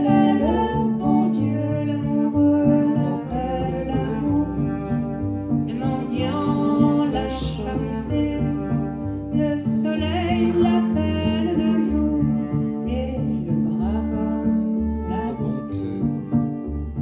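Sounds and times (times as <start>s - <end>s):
bowed cello sustained notes: 0.0s - 17.0s.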